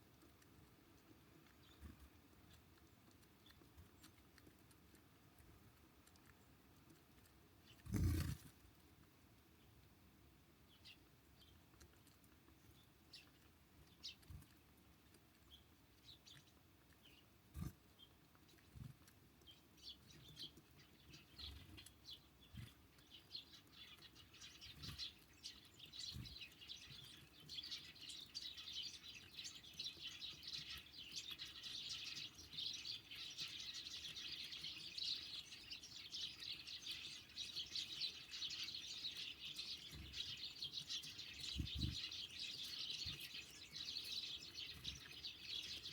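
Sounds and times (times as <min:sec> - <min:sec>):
songbirds chirping: 0:00.0 - 0:45.9.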